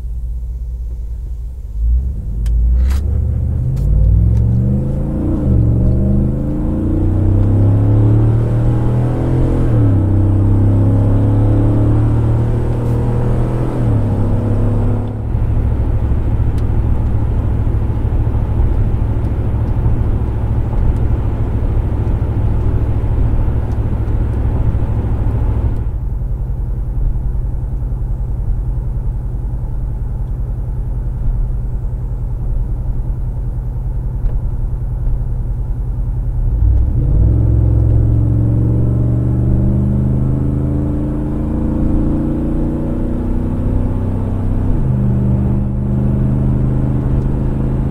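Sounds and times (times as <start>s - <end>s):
truck engine driving: 0.0s - 47.9s.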